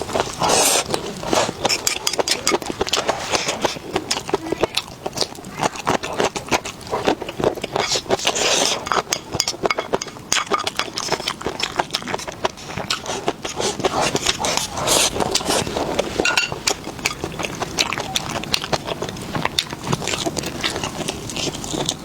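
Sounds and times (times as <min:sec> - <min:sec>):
wet chewing and mouth smacks: 0:00.0 - 0:22.0.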